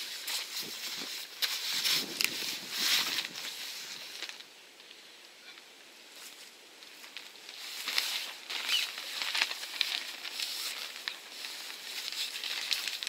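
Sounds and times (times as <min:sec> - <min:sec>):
tent canvas rustling and flapping: 0:00.0 - 0:04.5, 0:06.1 - 0:13.0.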